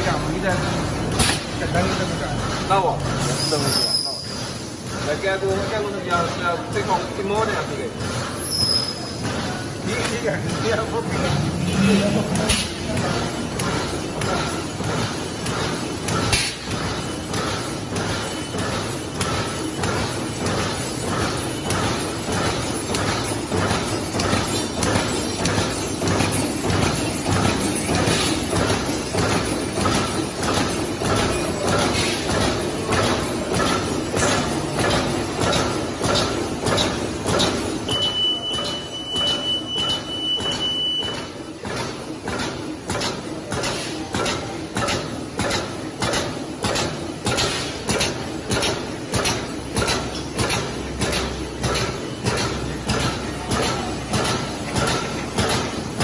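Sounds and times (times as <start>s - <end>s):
mechanical hum: 0.0s - 56.0s
machine heads clacking: 9.1s - 56.0s.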